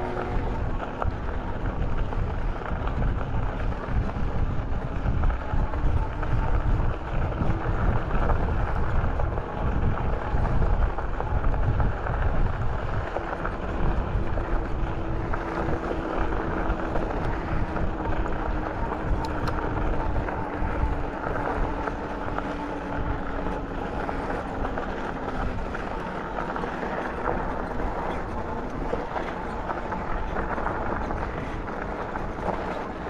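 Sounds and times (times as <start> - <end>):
faint steady hum: 0.0 - 33.0
wind buffeting microphone: 0.0 - 33.0.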